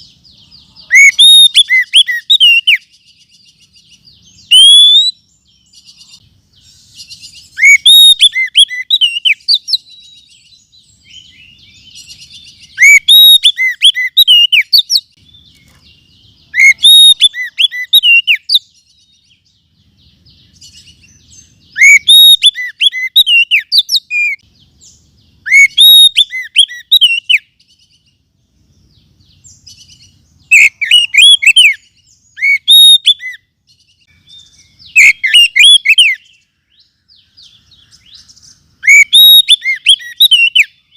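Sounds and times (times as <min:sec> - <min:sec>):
bird whistled song phrases: 0:00.0 - 0:28.2, 0:29.0 - 0:40.9
soft bird twittering: 0:00.0 - 0:40.9.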